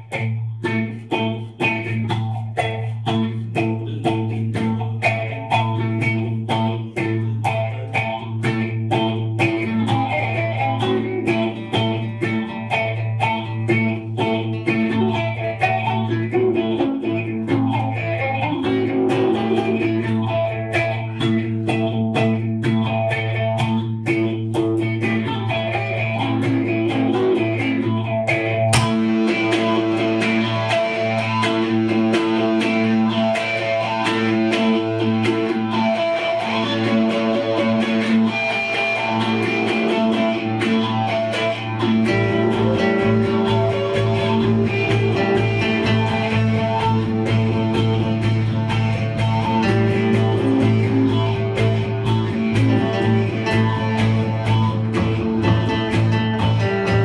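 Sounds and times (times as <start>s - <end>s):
guitars picked: 0.0s - 57.0s.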